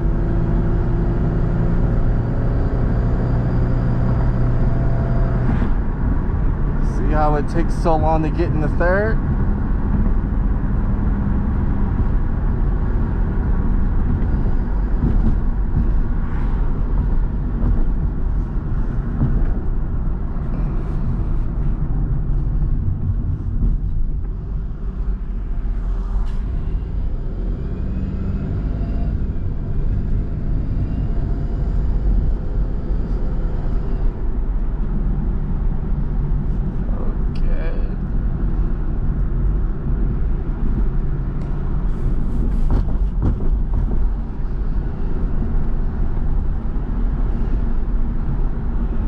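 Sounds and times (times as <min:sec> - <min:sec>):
road and wind noise: 0:00.0 - 0:49.0.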